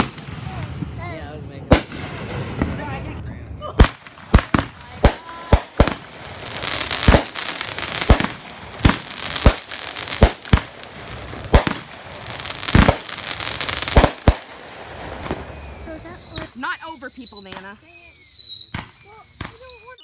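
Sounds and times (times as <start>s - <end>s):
fireworks bangs: 0.0s - 20.0s
fireworks hissing crackle: 1.7s - 20.0s.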